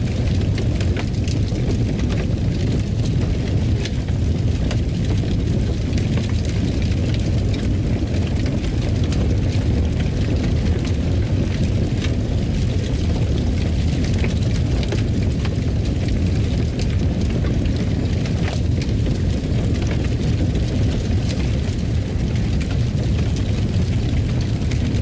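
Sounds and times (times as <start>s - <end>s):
fire burning low rumble: 0.0s - 25.0s
fire crackling and popping: 0.0s - 25.0s.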